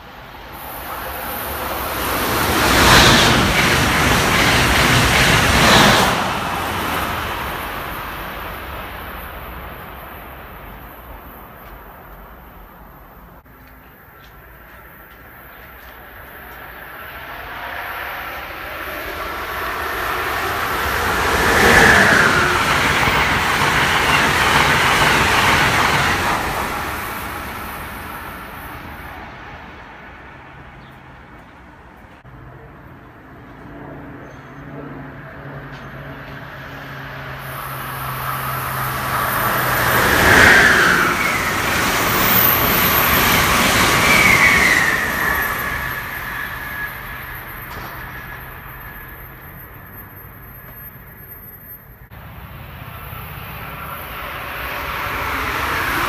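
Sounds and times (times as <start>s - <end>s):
trains passing: 0.0s - 56.0s.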